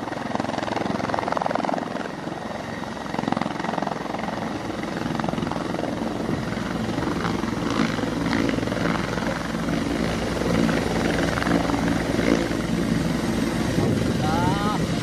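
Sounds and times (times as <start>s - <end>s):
helicopter rotor chop: 0.0s - 15.0s
turbine engine whine: 0.0s - 15.0s.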